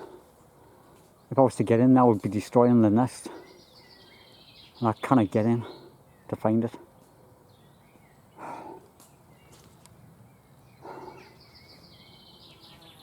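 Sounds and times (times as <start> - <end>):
faint bird song: 0.0 - 13.0.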